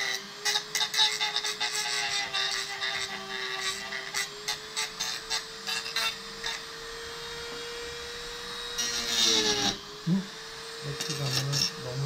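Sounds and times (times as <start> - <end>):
rotary grinder whining: 0.0 - 12.0.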